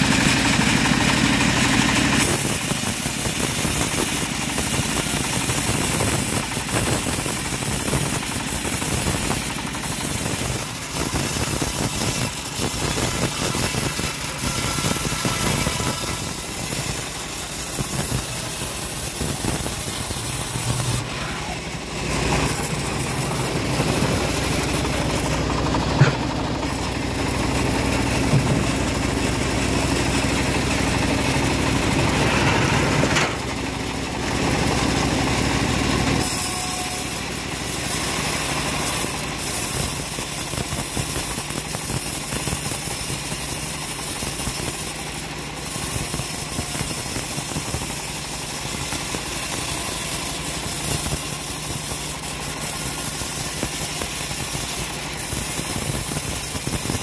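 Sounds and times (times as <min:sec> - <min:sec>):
bandsaw cutting through log: 0:00.0 - 0:57.0.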